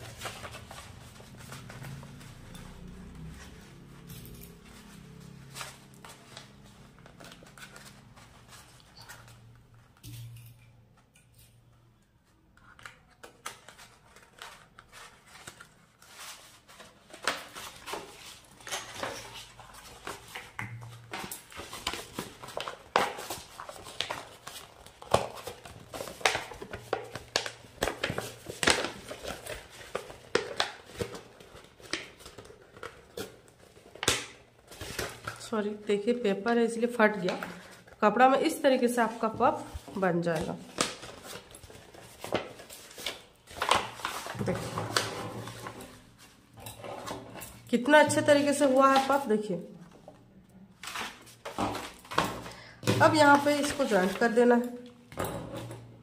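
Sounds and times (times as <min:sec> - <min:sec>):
paper crinkling and rustling: 0:00.0 - 0:10.4, 0:12.2 - 0:35.8, 0:38.6 - 0:55.0.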